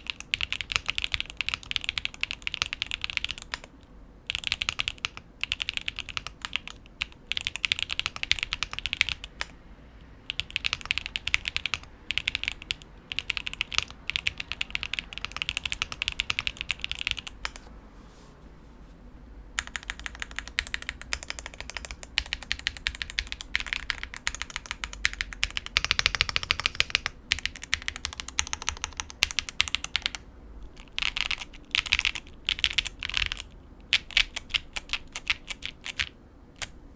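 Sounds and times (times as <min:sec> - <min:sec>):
mechanical keyboard typing: 0:00.0 - 0:03.7, 0:04.3 - 0:09.6, 0:10.2 - 0:17.6, 0:19.6 - 0:30.2, 0:30.8 - 0:36.7.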